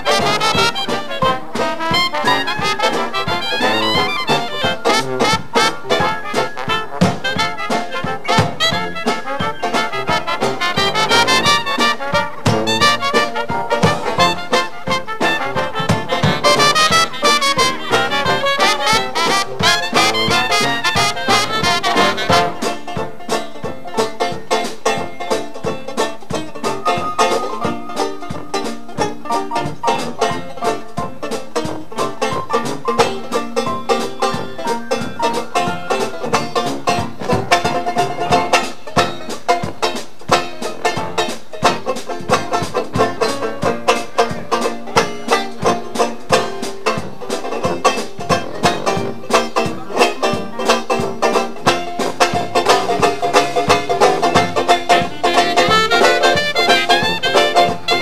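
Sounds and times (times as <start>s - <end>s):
jazz band playing: 0.0s - 58.0s
rapid banjo solo: 0.0s - 58.0s.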